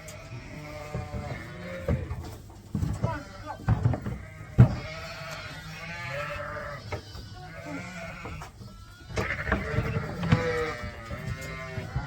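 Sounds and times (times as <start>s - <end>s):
sheep bleating: 0.0s - 2.2s, 2.9s - 12.0s.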